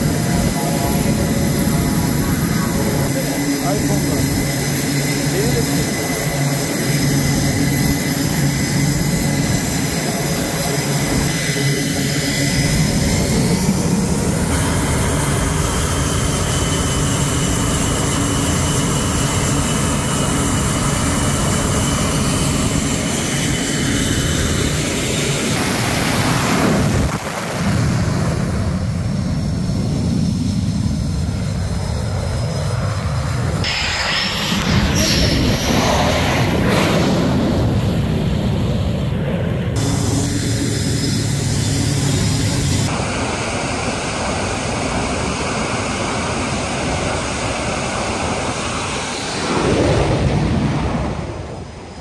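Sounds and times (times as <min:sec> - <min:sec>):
jet engines roaring with whine: 0:00.0 - 0:52.0.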